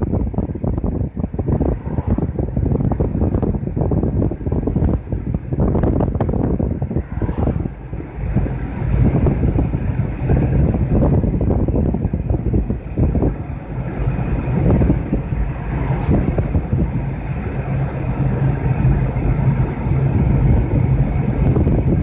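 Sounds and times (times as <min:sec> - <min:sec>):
car engine hum: 0:00.0 - 0:22.0
tyre rumble on highway: 0:00.0 - 0:22.0
wind buffeting: 0:00.0 - 0:22.0.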